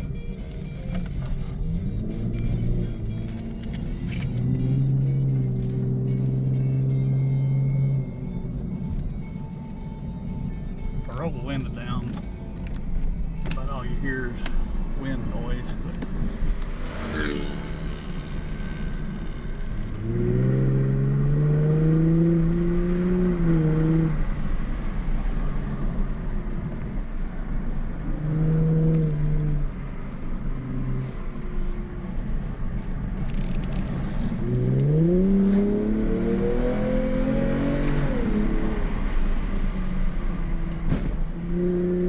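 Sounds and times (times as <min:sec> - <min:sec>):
car exhaust tone: 0:00.0 - 0:42.0.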